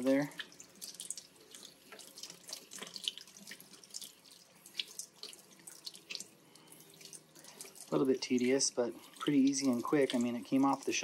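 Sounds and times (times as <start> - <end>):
wet clicks and squelches: 0.2 - 10.6.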